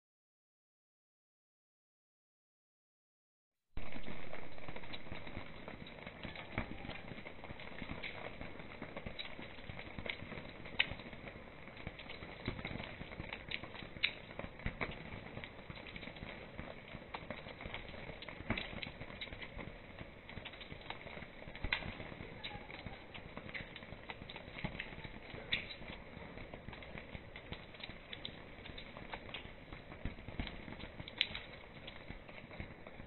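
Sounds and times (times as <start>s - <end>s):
rain hissing: 3.8s - 33.0s
raindrops tapping tarp and tiles: 3.8s - 33.0s.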